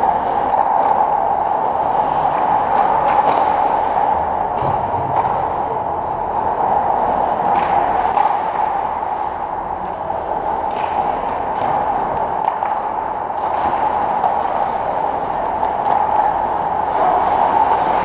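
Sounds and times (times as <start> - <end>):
arena hum and hiss: 0.0 - 18.0.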